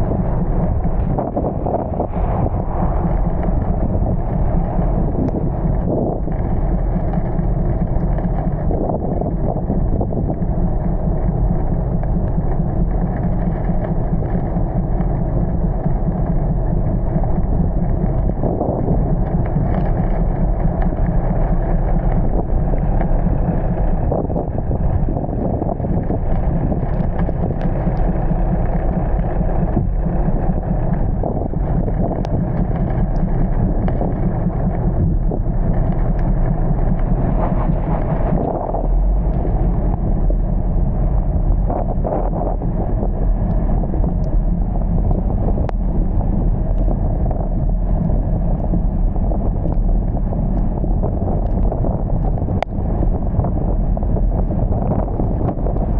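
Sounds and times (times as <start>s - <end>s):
vehicle rumbling: 0.0s - 55.9s
faint ticks: 2.4s - 40.4s, 43.0s - 53.5s.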